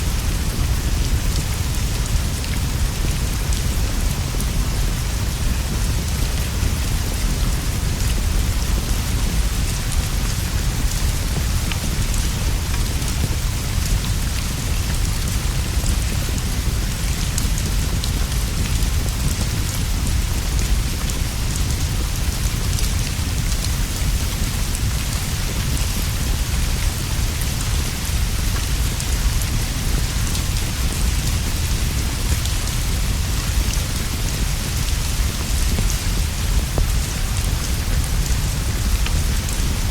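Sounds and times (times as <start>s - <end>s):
heavy rain on leaves and straw roof: 0.0s - 39.9s.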